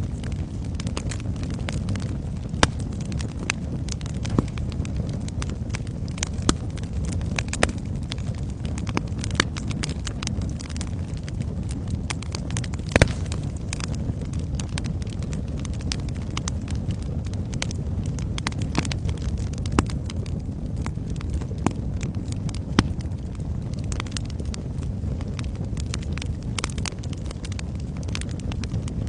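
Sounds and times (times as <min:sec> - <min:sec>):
low rumble of flames: 0:00.0 - 0:29.0
sharp pops of fire: 0:00.0 - 0:29.0
wood fire crackling: 0:00.0 - 0:29.0.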